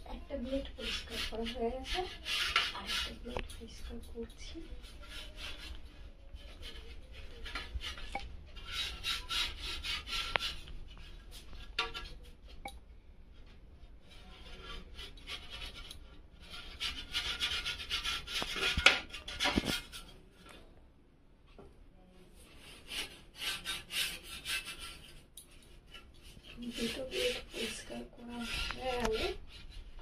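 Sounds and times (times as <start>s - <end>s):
hand brush scrubbing: 0.0s - 12.6s, 14.0s - 20.2s, 22.3s - 30.0s.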